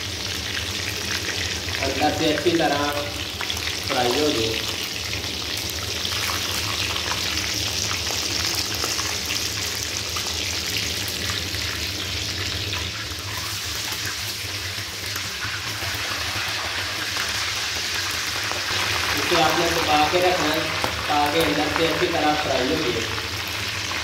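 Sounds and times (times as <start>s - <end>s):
chicken deep-frying in oil: 0.0s - 24.0s.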